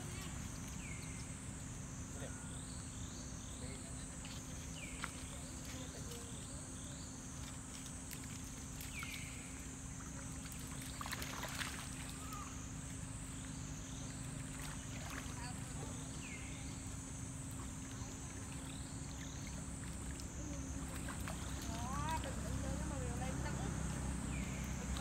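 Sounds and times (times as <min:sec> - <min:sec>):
monkeys splashing in water: 0:03.5 - 0:25.0.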